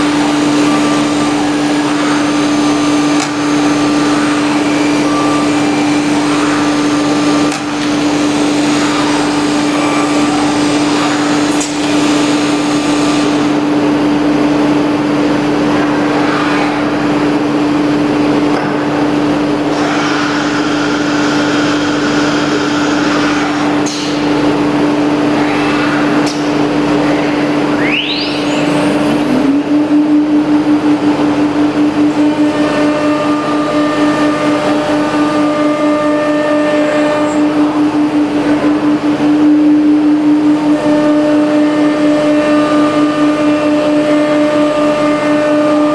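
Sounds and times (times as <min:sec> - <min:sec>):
router spindle high hum: 0:00.0 - 0:45.9
rushing cutting and vacuum noise: 0:00.0 - 0:45.9.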